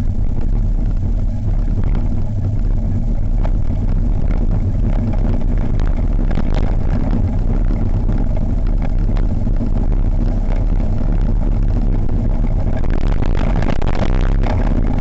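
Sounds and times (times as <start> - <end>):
wheels rumbling on asphalt: 0.0 - 15.0.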